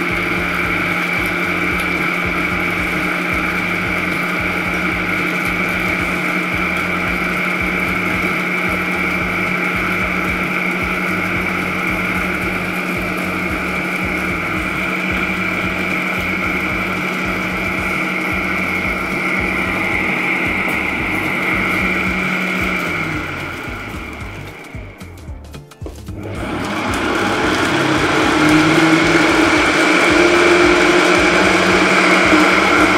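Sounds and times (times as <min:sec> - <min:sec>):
blender motor grinding bread: 0:00.0 - 0:25.3, 0:26.1 - 0:32.9.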